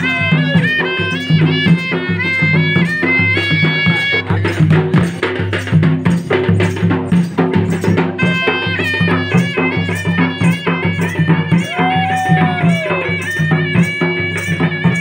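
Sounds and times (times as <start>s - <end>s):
reedy wind instrument melody: 0.0s - 5.5s, 7.5s - 15.0s
low drum rhythm: 0.0s - 15.0s.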